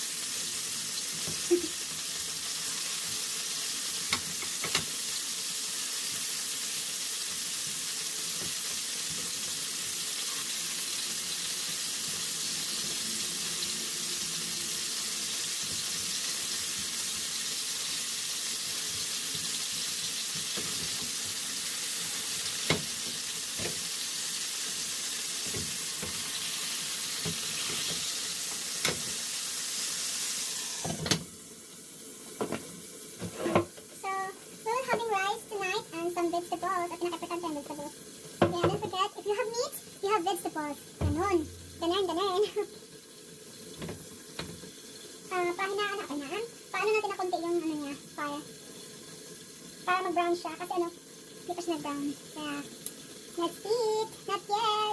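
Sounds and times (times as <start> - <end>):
chicken wings sizzling in a pan: 0.0 - 54.9
sharp clicks of frying: 0.0 - 54.9.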